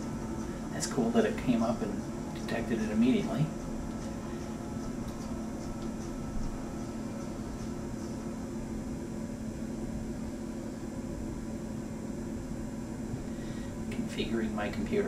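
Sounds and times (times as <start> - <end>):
faint room hiss: 0.0 - 15.0
steady low hum: 0.0 - 15.0.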